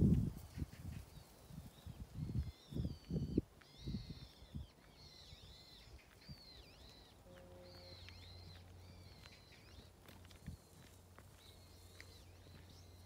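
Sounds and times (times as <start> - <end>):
bird chirping: 0.5 - 13.0.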